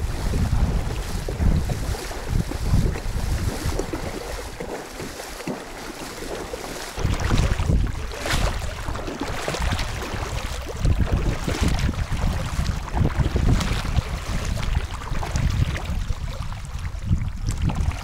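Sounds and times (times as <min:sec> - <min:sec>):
rushing water: 0:00.0 - 0:18.0
wind buffeting microphone: 0:00.0 - 0:18.0.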